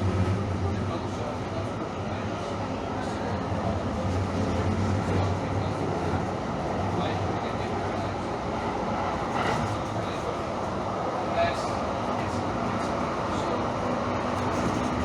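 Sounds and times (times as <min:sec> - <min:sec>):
train car hum and rumble: 0:00.0 - 0:15.0.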